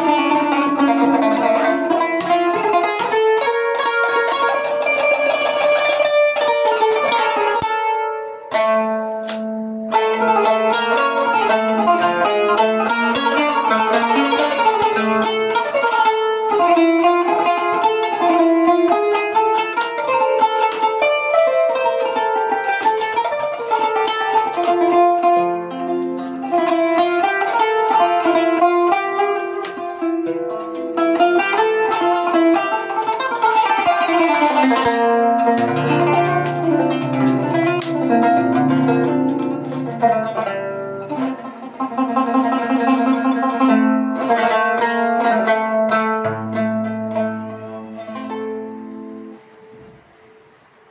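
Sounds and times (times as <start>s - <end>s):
plucked zither runs: 0.0s - 50.7s.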